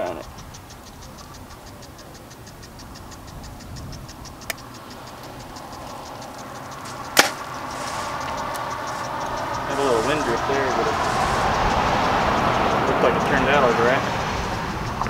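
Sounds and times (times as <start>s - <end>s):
fast faint ticking: 0.0s - 15.0s
vehicle passing: 0.0s - 15.0s.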